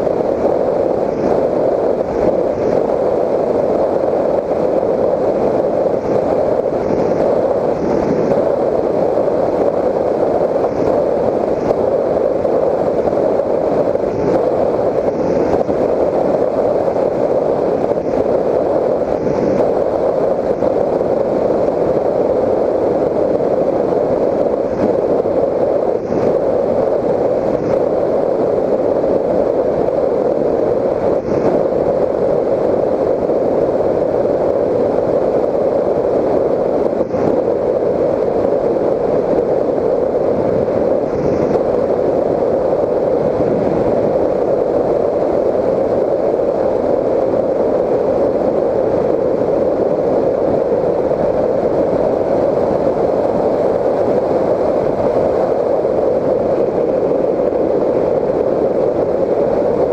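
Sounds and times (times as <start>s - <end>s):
propeller and airflow rush: 0.0s - 59.9s.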